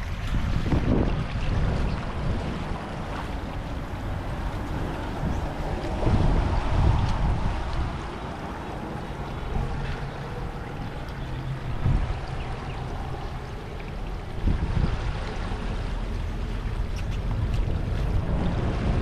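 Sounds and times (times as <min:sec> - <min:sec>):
water flowing through a drain: 0:00.0 - 0:19.0
wind buffeting microphone: 0:00.0 - 0:19.0.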